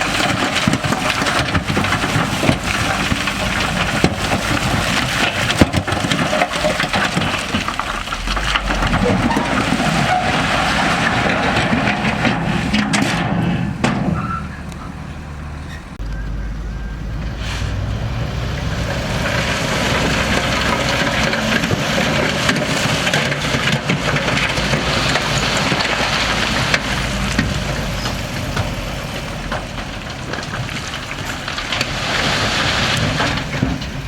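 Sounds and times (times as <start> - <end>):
heavy diesel machinery hum: 0.0 - 34.0.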